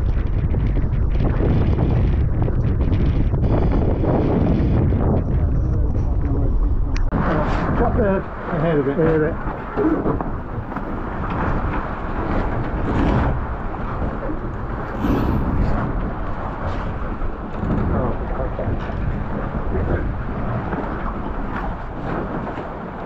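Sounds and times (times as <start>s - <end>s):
water splashing against hull: 0.0s - 23.0s
wind buffeting microphone: 0.0s - 23.0s.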